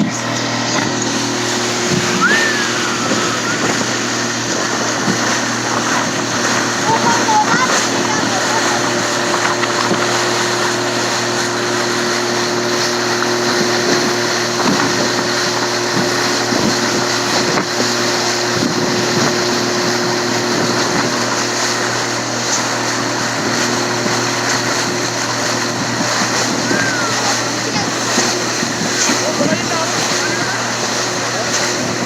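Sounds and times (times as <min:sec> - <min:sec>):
motorboat engine running: 0:00.0 - 0:32.0.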